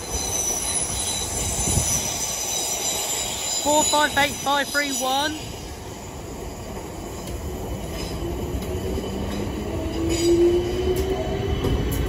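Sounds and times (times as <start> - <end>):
train wheel-on-rail rumble: 0.0 - 12.0.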